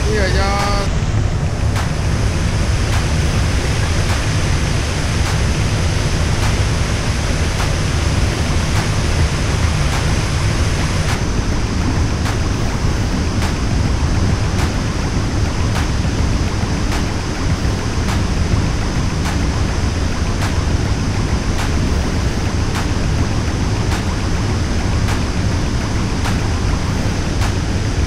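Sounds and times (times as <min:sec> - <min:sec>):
waterfall rushing into pool: 0:00.0 - 0:28.0.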